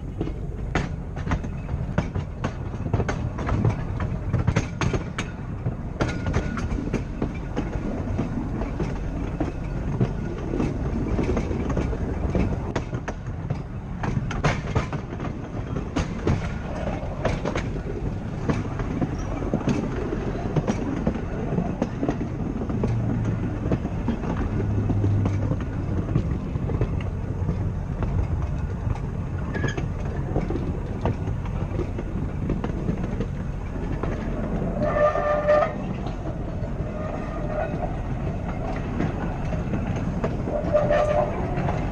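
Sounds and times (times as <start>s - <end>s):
tram wheels rumbling: 0.0s - 41.9s
wheels clicking over rail joints: 0.0s - 41.9s.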